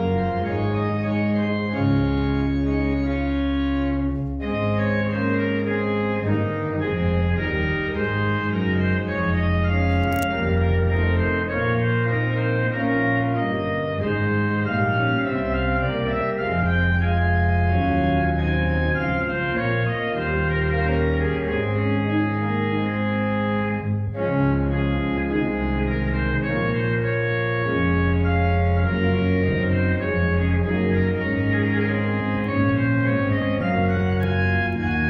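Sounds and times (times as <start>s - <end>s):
pipe organ playing chords: 0.0s - 35.0s.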